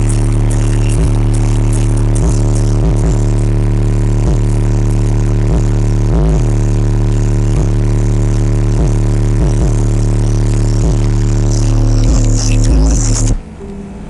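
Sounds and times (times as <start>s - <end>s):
subwoofers playing loud bass note: 0.0s - 14.0s.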